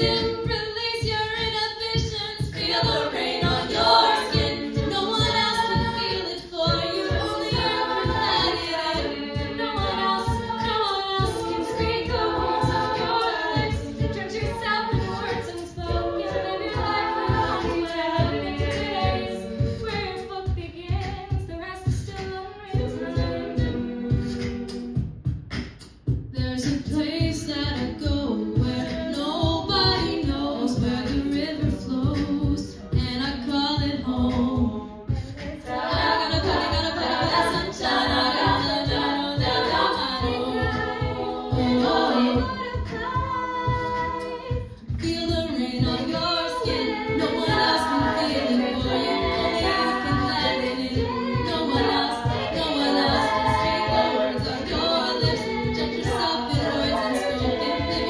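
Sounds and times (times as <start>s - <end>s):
female voices singing in harmony: 0.0s - 25.1s, 26.4s - 58.0s
vocal percussion beat: 0.0s - 58.0s.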